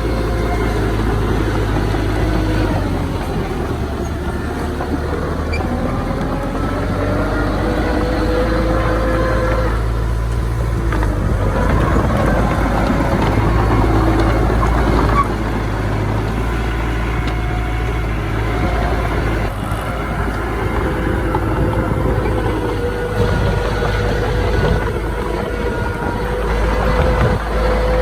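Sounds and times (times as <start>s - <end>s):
diesel engines of earthmoving machinery: 0.0s - 28.0s.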